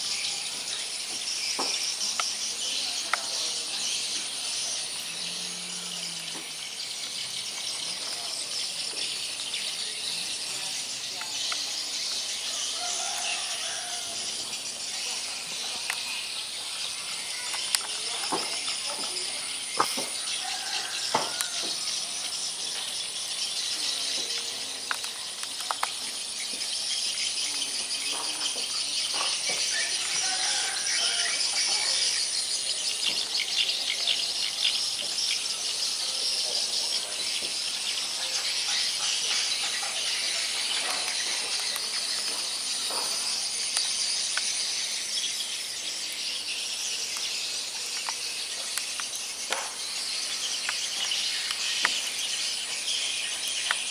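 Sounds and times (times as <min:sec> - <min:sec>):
insect chorus trilling: 0:00.0 - 0:53.9.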